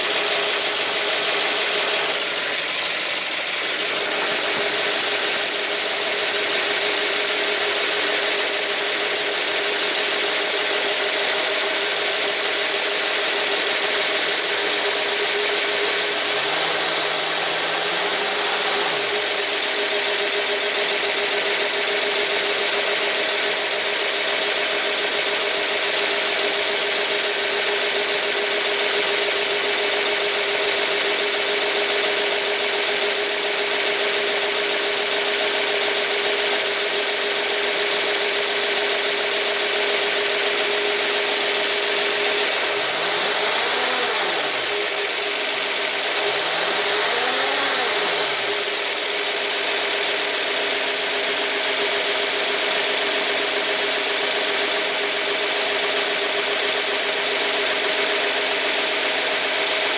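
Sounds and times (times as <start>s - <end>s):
car engine idling: 0.0s - 24.4s, 29.4s - 54.0s.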